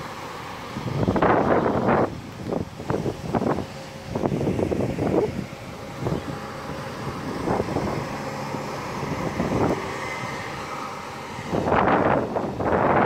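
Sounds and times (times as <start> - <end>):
bus diesel engine passing: 0.0 - 13.0
wind gusts on microphone: 0.0 - 13.0.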